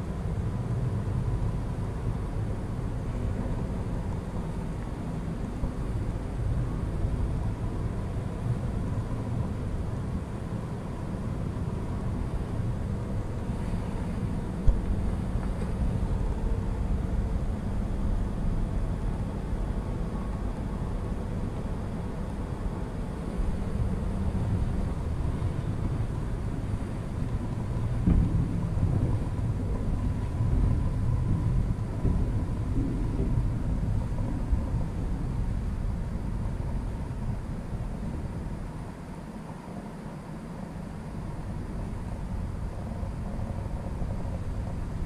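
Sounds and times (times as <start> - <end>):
faint hum: 0.0 - 45.0
low background rumble: 0.0 - 45.0.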